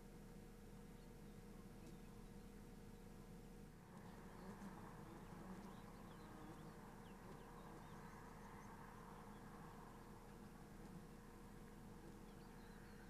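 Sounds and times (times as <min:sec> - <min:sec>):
low steady hum: 0:00.0 - 0:13.0
faint bird chirps: 0:00.8 - 0:13.0.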